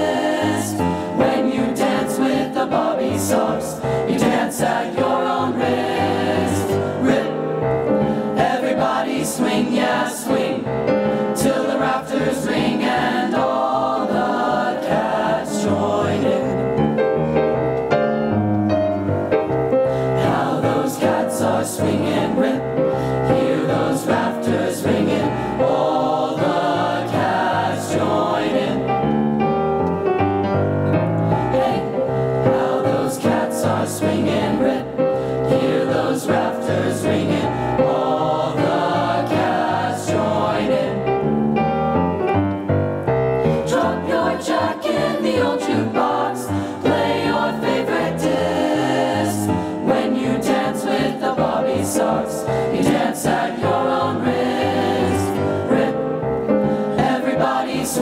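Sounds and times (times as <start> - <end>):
choir singing swing: 0.0 - 17.4, 19.7 - 29.4, 31.3 - 41.5, 43.4 - 58.0
piano accompaniment: 0.0 - 58.0.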